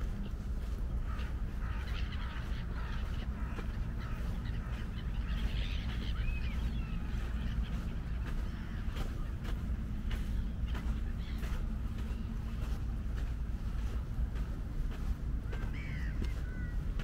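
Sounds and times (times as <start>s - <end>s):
birds calling: 0.0s - 17.0s
footsteps on sand: 0.0s - 17.0s
steady low rumble: 0.0s - 17.0s
rising and falling bird call: 0.2s - 12.6s, 15.4s - 17.0s.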